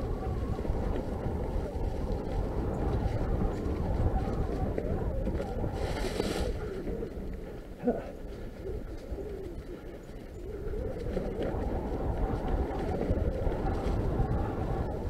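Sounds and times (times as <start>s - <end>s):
mountain bike tyres rumbling on dirt: 0.0s - 15.0s.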